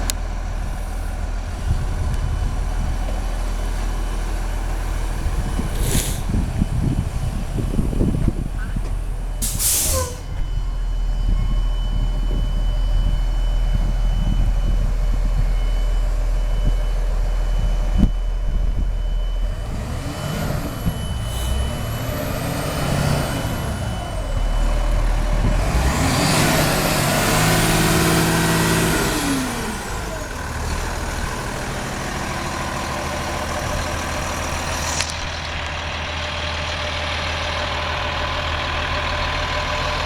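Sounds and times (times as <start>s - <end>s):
bus engine idling and revving: 0.0s - 40.0s
high engine whine: 0.0s - 40.0s.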